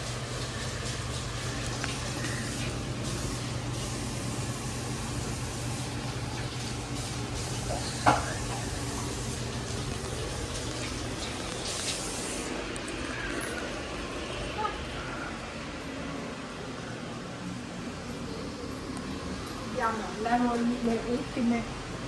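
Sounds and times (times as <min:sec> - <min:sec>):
kitchen hum and hiss: 0:00.0 - 0:22.0.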